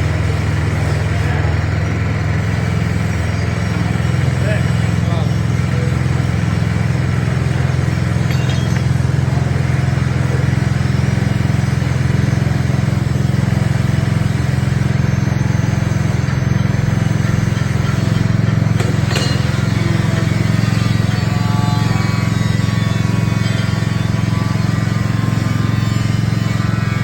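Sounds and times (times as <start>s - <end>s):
small petrol engine running: 0.0s - 27.0s.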